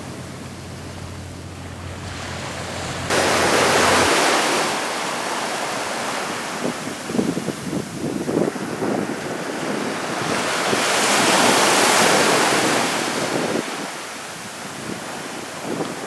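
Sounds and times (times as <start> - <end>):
small surf breaking on sand: 1.9 - 16.0.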